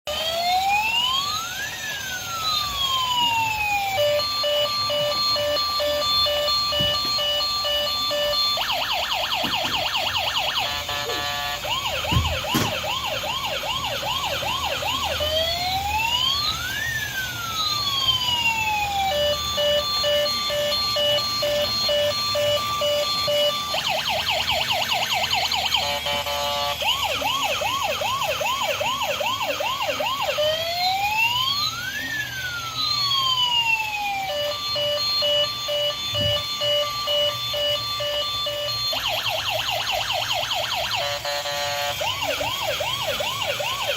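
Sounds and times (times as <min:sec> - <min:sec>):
electronic siren cycling tones: 0:00.1 - 0:43.9.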